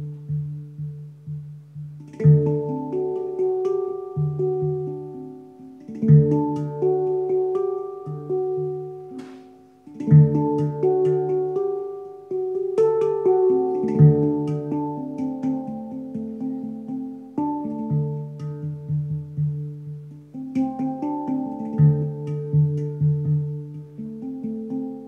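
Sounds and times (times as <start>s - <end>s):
handpan melody: 0.0s - 25.0s.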